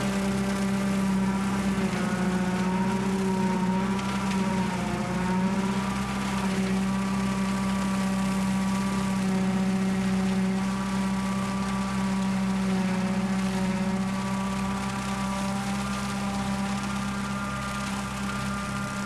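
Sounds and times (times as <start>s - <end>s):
tractor engine and mower droning: 0.0s - 19.0s.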